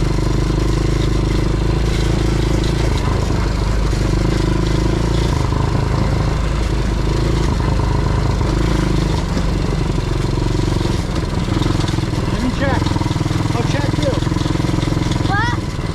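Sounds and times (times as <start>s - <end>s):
constant rushing noise: 0.0s - 15.9s
quad bike engine running: 0.0s - 15.9s.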